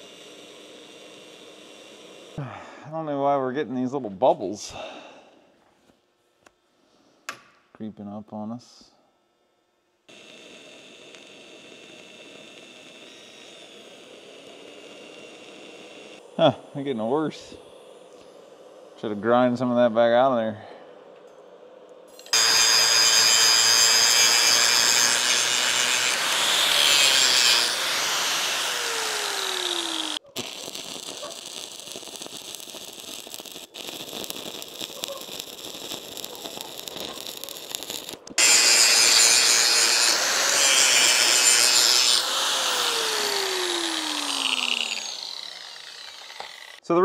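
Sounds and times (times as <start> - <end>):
welding arc crackling and hissing: 0.0 - 2.5, 10.1 - 20.6, 22.1 - 46.9.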